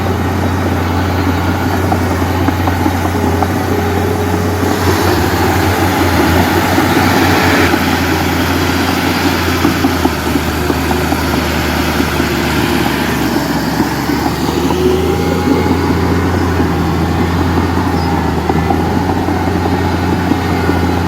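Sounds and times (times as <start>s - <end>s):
diesel machinery engine hum: 0.0s - 21.0s.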